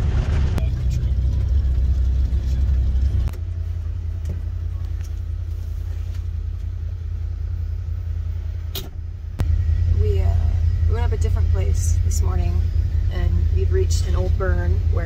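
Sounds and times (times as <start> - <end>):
engine rumble inside cab: 0.0 - 15.0.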